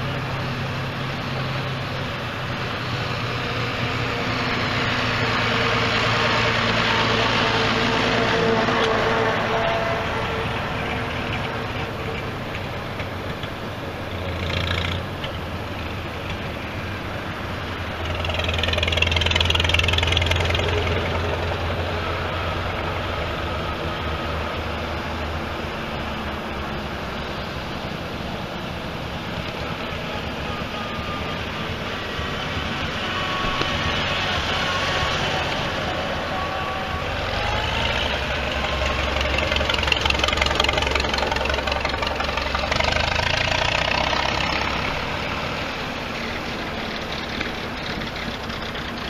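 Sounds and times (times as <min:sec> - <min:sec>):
tractor engines chugging: 0:00.0 - 0:49.0.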